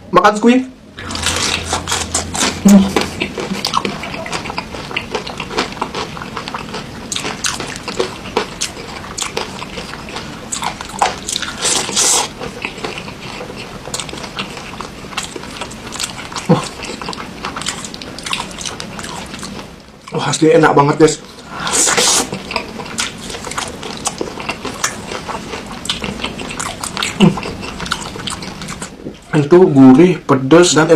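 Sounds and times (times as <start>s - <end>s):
crunchy chewing: 1.0s - 29.4s.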